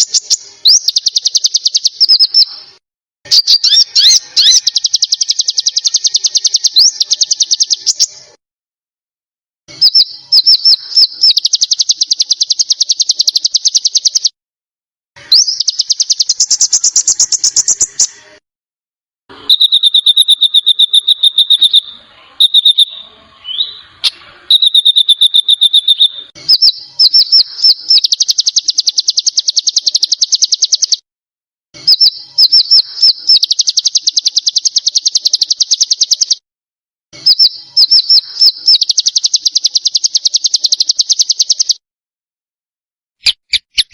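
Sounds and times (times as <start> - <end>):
high whistled bird notes: 0.0 - 8.3, 9.7 - 14.3, 15.2 - 18.2, 19.4 - 31.0, 31.8 - 36.4, 37.2 - 41.8
songbirds buzzy trills: 0.0 - 8.4, 9.8 - 14.3, 15.2 - 18.2, 19.4 - 31.0, 31.8 - 36.4, 37.2 - 41.8.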